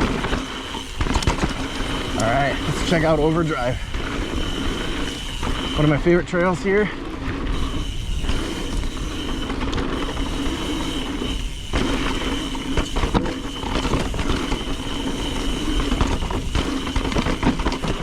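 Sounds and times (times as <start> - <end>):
bike rattling over bumps: 0.0 - 18.0
bike tyres rolling on dirt: 0.0 - 18.0
steady buzz: 0.0 - 18.0.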